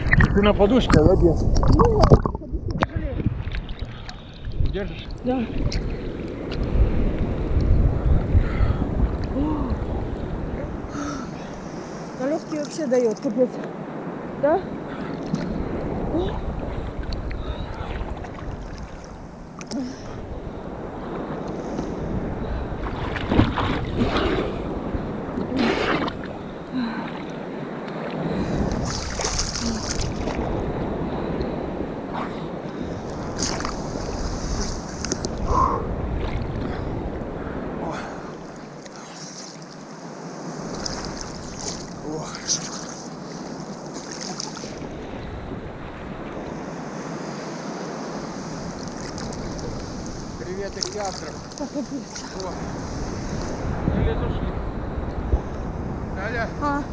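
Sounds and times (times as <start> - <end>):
wind buffeting microphone: 0.0 - 38.8, 39.9 - 56.9
rough sea water splashing: 0.0 - 56.9.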